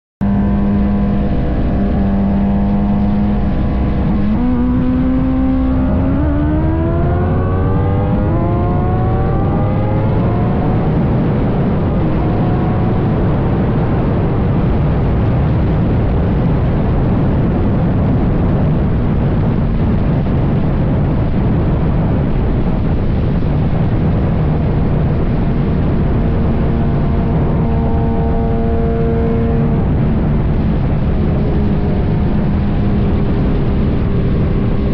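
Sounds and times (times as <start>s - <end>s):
loud rushing wind noise: 0.2s - 34.9s
motorcycle engine revving: 0.2s - 34.9s.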